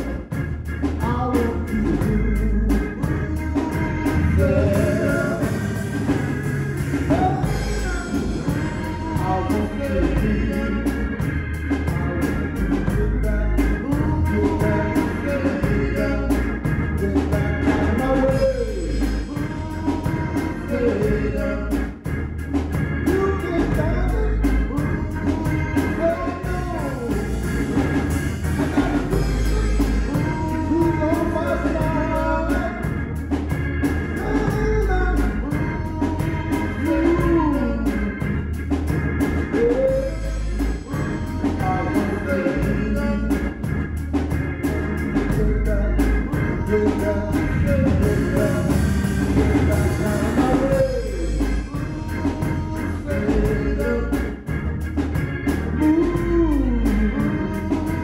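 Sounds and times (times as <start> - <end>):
men singing into microphones: 0.0 - 0.2, 1.0 - 6.2, 7.0 - 22.0, 23.1 - 33.1, 34.2 - 38.2, 39.5 - 43.5, 45.2 - 54.4, 55.8 - 58.0
organ accompaniment: 0.0 - 58.0.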